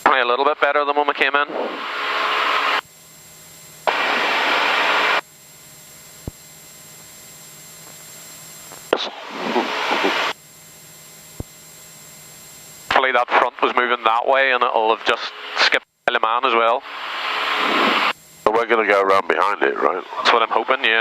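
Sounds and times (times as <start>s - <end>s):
radio static hiss bursts: 0.0s - 2.8s, 3.8s - 5.3s, 6.2s - 10.4s, 11.0s - 11.7s, 12.8s - 21.0s
steady low hum: 0.0s - 21.0s.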